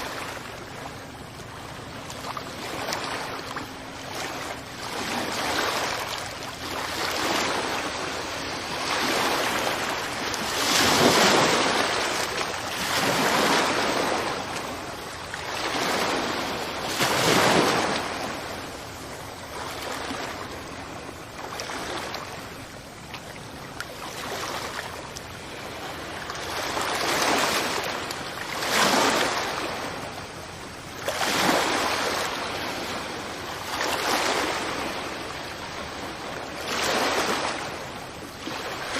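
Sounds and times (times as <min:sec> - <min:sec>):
sea waves breaking on a beach: 0:00.0 - 0:38.9.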